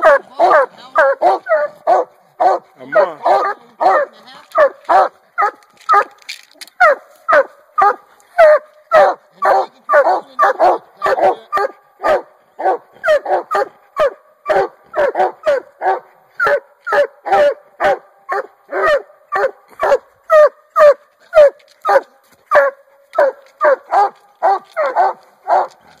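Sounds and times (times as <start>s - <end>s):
hound barking: 0.0s - 6.2s, 6.8s - 25.9s.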